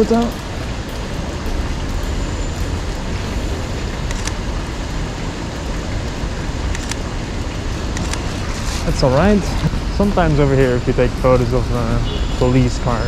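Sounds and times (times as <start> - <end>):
low rumble of traffic: 0.0 - 13.0
steady rain on street: 0.0 - 13.0.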